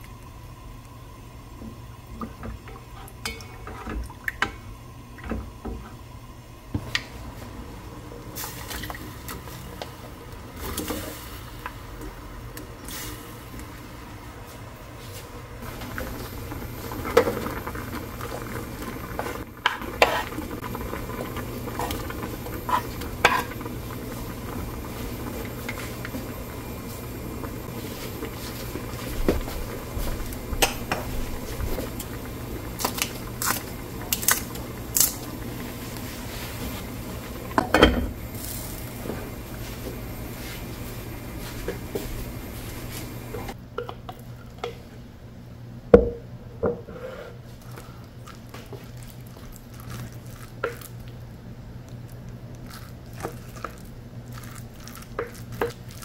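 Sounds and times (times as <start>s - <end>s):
stew bubbling in a pot: 0.0s - 14.8s, 15.6s - 45.0s, 47.4s - 56.0s.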